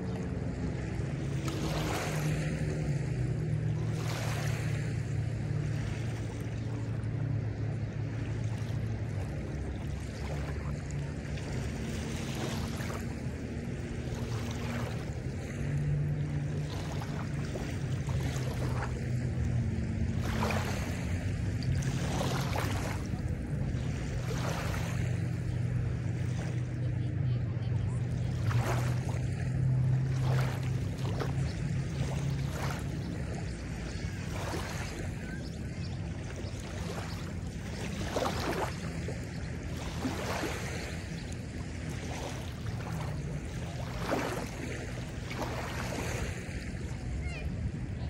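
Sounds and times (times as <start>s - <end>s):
motorboat engine drone: 0.0s - 48.0s
small waves lapping on shore: 0.0s - 48.0s.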